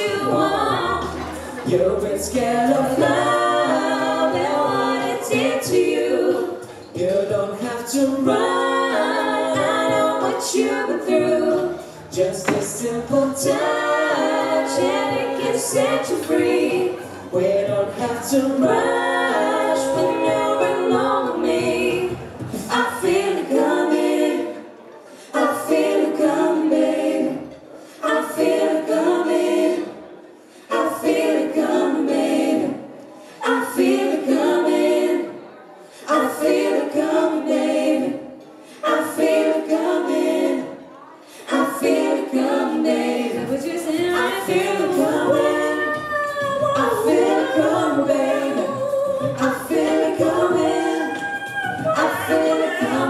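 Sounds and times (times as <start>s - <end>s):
a cappella group singing: 0.0s - 53.0s.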